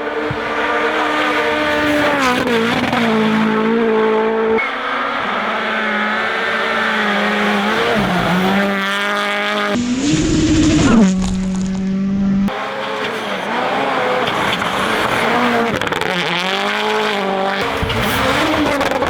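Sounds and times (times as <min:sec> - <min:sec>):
rally car engines at full throttle: 0:00.0 - 0:19.0.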